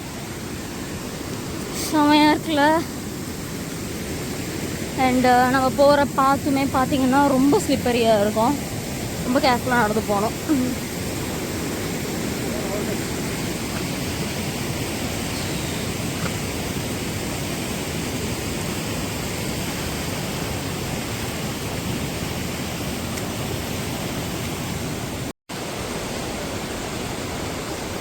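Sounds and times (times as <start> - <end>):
water rushing from falls: 0.0 - 28.0.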